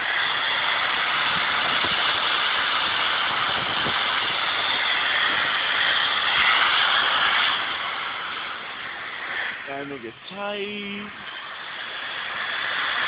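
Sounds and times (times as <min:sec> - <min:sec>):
loud dense rushing noise: 0:00.0 - 0:13.0
vehicle engine running: 0:00.0 - 0:13.0.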